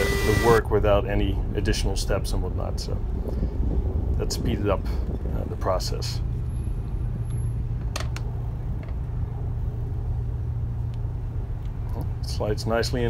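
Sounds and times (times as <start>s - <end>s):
steady low rumble: 0.6s - 13.0s.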